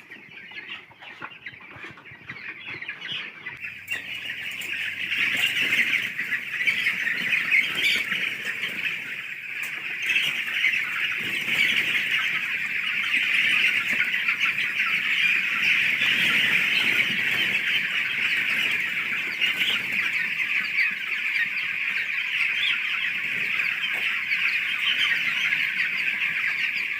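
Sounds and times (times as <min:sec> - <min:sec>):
chickens clucking and peeping: 0:00.0 - 0:26.9.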